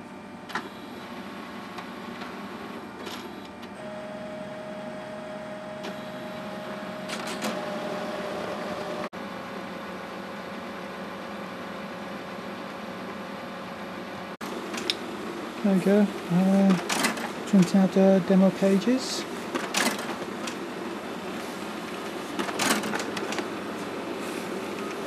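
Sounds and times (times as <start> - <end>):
printer motors whirring: 0.2 - 9.1, 10.8 - 25.0.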